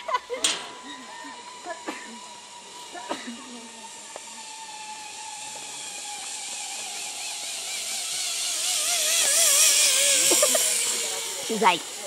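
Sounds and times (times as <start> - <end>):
zip line pulleys whining: 0.0 - 12.0.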